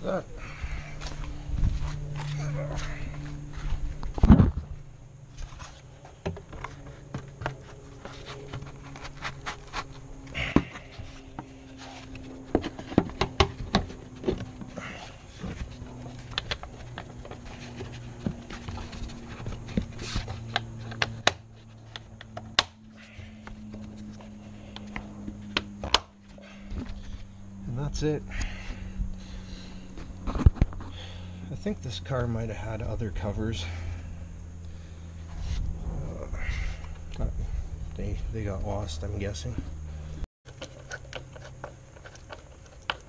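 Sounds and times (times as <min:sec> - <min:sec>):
low hum: 0:00.0 - 0:43.0.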